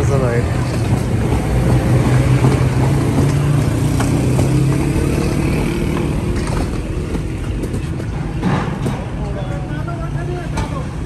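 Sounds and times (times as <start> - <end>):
street traffic: 0.0 - 11.0
vehicle engine hum: 0.0 - 11.0.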